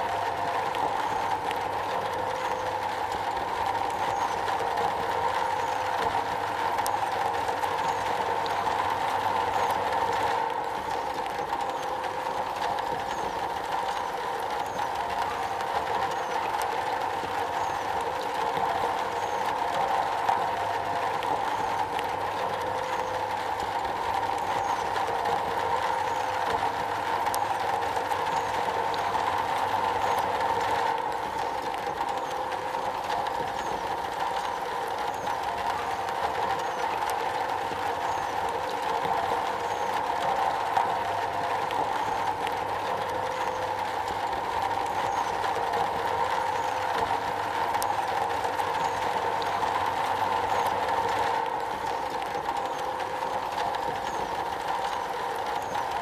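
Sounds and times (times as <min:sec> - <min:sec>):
rain on a metal roof: 0:00.0 - 0:56.0.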